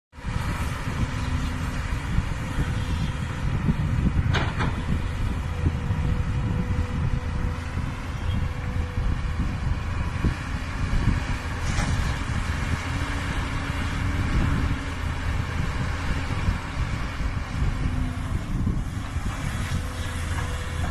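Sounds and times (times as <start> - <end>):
heavy diesel machinery running: 0.2 - 20.9.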